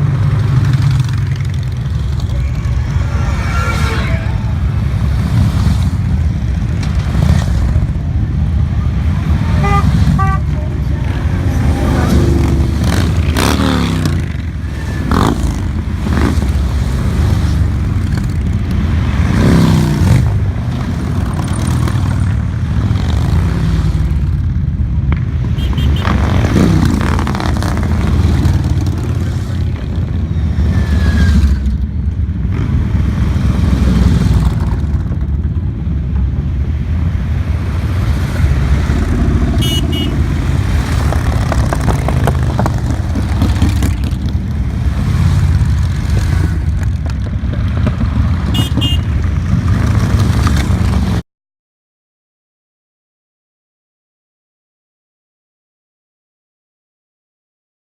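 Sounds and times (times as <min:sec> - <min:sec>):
motorcycles riding past: 0:00.0 - 0:51.2.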